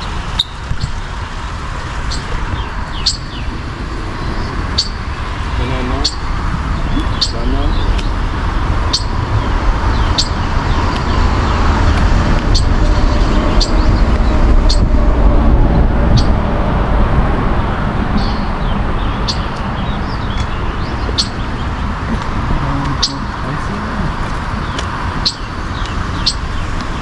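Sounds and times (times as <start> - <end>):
loud low rumble: 0.0 - 27.0
high bird chirps: 0.4 - 0.9, 2.1 - 15.0, 18.2 - 27.0.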